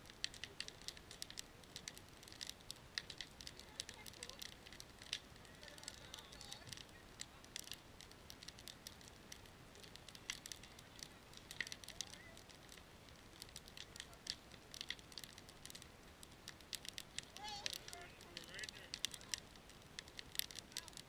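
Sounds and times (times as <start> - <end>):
sharp snaps of fire: 0.0 - 21.0
wood fire crackling: 0.0 - 21.0.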